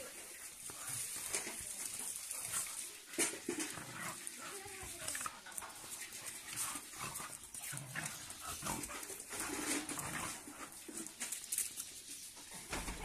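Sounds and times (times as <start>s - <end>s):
dogs scuffling: 0.0s - 13.0s
dogs growling and snarling: 0.6s - 11.2s.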